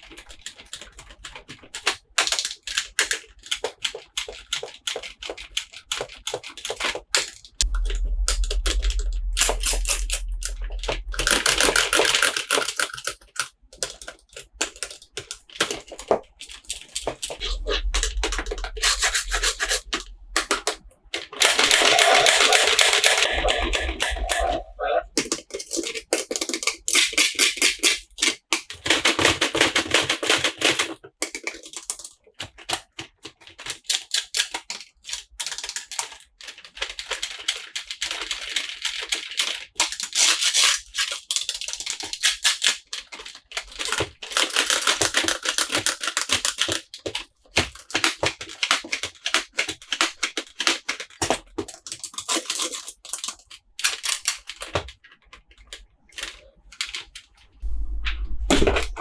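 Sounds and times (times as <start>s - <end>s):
plastic toys and packaging clicking: 0.0s - 7.6s, 11.6s - 17.6s, 18.2s - 24.4s, 25.2s - 57.5s.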